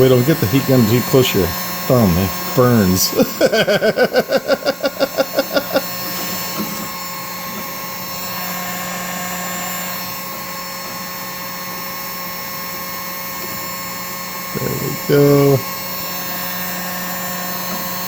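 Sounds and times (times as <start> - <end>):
heat gun fan whirring: 0.0 - 18.0.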